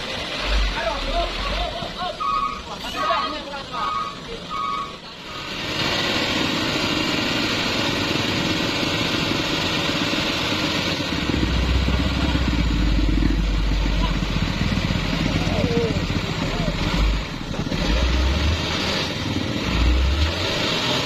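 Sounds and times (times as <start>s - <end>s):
deep loud engine rumble: 0.0s - 21.0s
vehicle engines running: 0.0s - 21.0s.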